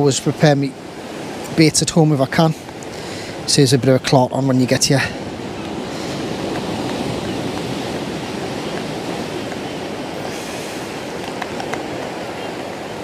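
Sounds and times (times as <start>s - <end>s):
sea surf washing in: 0.0s - 13.0s.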